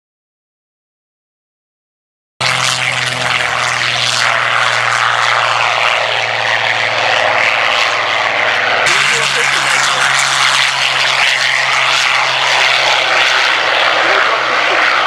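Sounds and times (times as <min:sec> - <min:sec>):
propeller plane flying past: 0:02.4 - 0:15.0.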